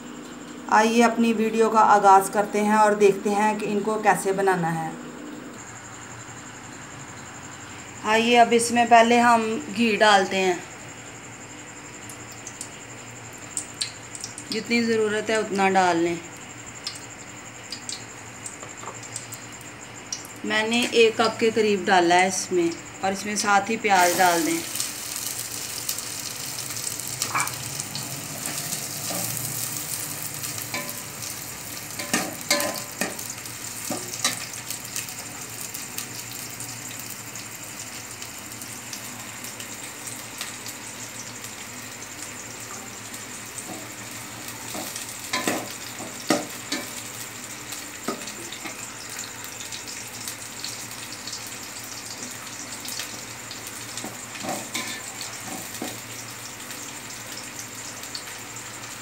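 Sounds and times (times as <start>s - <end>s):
onions sizzling in a pot: 0.0s - 4.8s, 5.4s - 59.0s.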